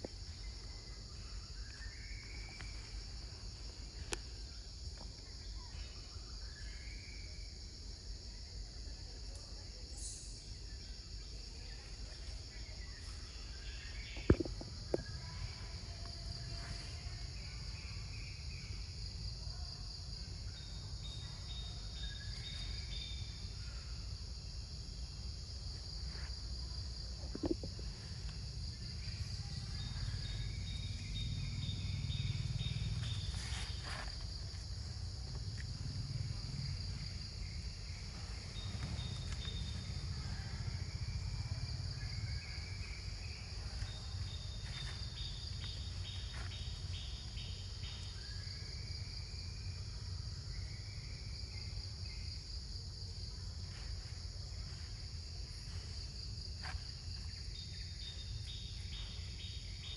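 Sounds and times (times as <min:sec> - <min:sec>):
insect chorus buzzing: 0:00.0 - 0:59.9.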